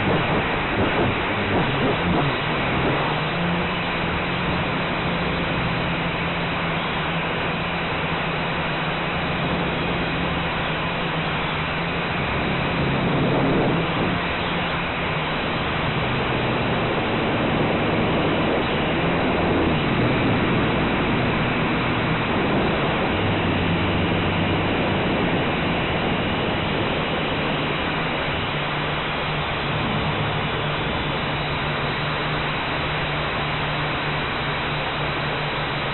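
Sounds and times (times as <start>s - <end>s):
low motor hum: 0.0s - 35.9s
propeller wash and wind: 0.0s - 35.9s.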